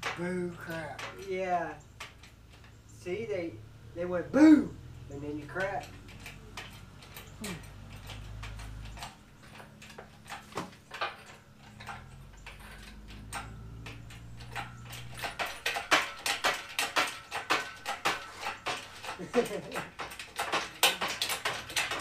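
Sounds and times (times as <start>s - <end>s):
metal tools clicking and clattering: 0.0s - 22.0s.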